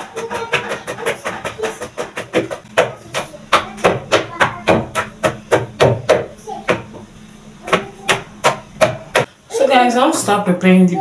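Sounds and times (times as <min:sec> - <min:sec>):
wooden pestle pounding: 0:00.0 - 0:09.3.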